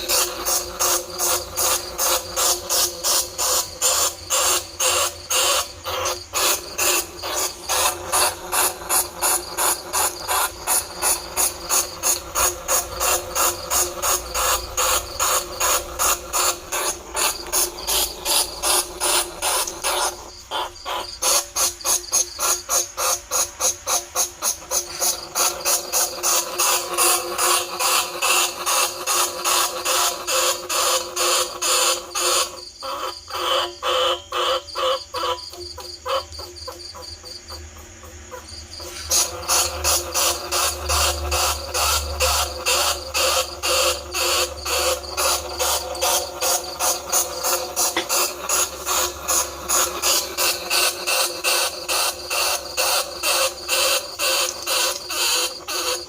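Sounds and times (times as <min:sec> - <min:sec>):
rat squeaks: 0:00.0 - 0:56.0.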